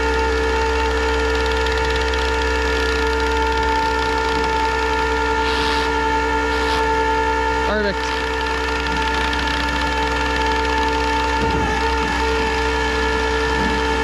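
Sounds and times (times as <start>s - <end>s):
hydraulic winch whine: 0.0s - 14.0s
truck engine running: 0.0s - 14.0s.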